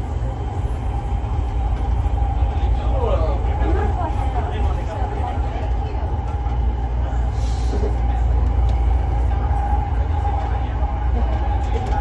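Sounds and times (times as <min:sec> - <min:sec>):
train car rumble: 0:00.0 - 0:12.0.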